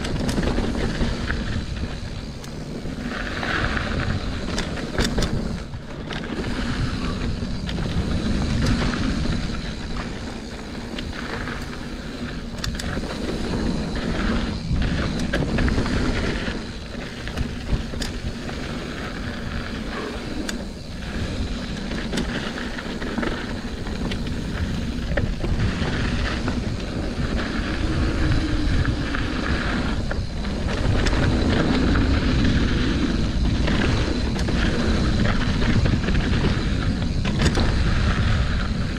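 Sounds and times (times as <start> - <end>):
bike clicks and knocks: 0.0 - 38.9
tyres rolling over gravel: 0.0 - 38.9
wind rumbling on microphone: 0.0 - 38.9.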